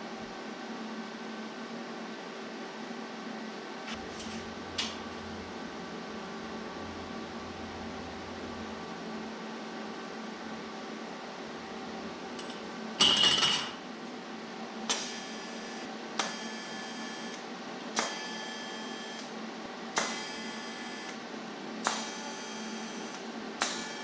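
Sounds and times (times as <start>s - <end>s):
steady hum: 1.4s - 24.0s.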